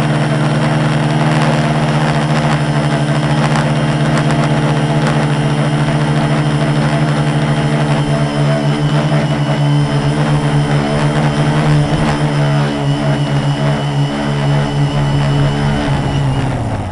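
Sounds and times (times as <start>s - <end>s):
drone motors humming: 0.0s - 16.9s.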